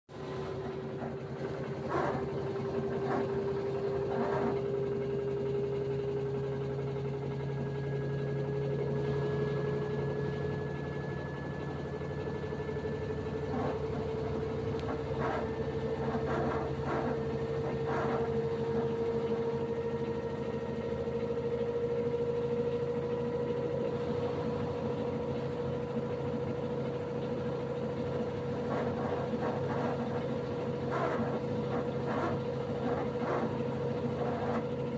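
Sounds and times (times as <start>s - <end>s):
washing machine motor whine: 0.0s - 34.9s
low hum: 0.1s - 34.9s.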